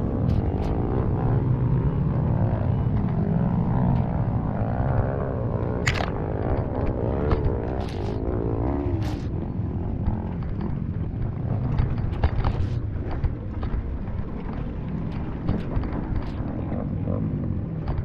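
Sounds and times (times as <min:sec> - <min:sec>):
bike knocks and rattles: 0:02.0 - 0:18.0.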